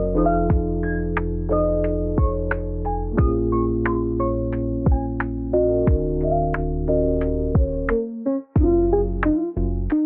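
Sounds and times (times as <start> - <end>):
soft synthesizer and piano chords: 0.0 - 10.0.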